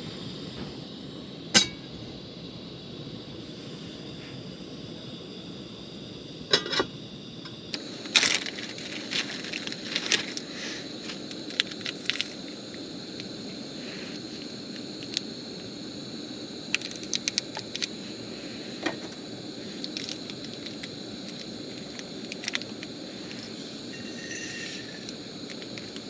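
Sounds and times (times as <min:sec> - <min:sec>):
propane burner hissing: 0:00.0 - 0:26.0.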